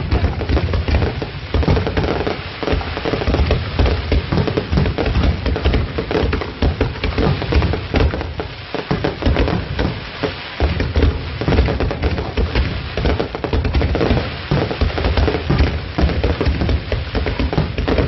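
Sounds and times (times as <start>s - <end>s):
firework crackling: 0.0s - 18.0s
firework deep booms: 0.0s - 18.0s.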